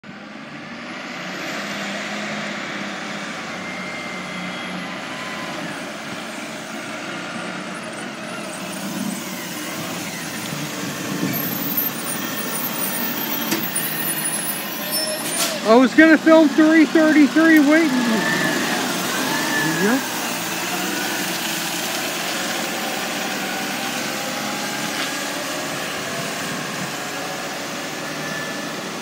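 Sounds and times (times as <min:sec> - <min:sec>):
garbage truck engine driving past: 0:00.0 - 0:29.0.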